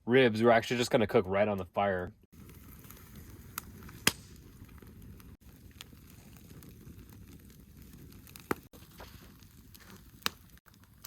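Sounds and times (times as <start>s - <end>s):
fire popping: 0.6s - 11.0s
campfire crackling: 0.9s - 11.0s.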